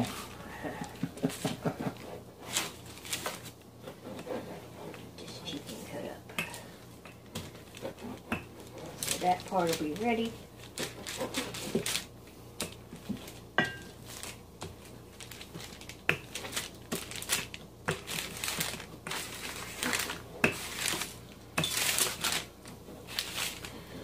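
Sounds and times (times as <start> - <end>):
wax paper crinkling and rustling: 1.2 - 4.4, 7.5 - 24.0.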